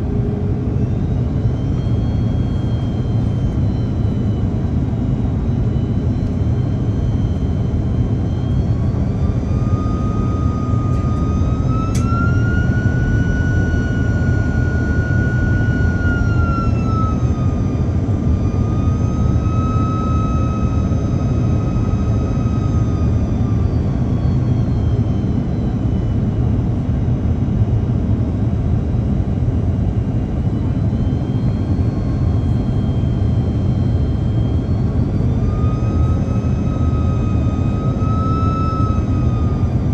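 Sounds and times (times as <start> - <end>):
aircraft cabin roar: 0.0 - 39.9
jet engine whine: 0.0 - 39.9.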